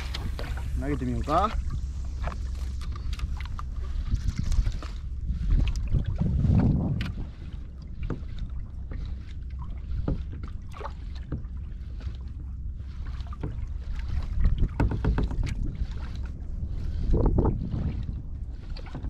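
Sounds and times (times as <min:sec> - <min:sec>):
light knocks and splashes: 0:00.0 - 0:19.0
small waves lapping against hull: 0:00.0 - 0:19.0
wind rumbling on microphone: 0:00.0 - 0:19.0.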